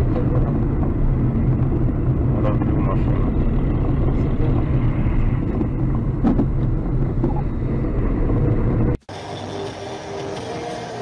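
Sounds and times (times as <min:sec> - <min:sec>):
car cabin road rumble: 0:00.0 - 0:09.0.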